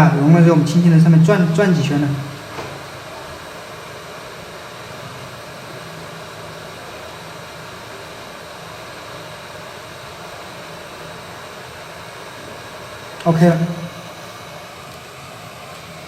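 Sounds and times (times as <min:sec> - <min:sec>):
hot air blower hissing: 0:00.0 - 0:16.0.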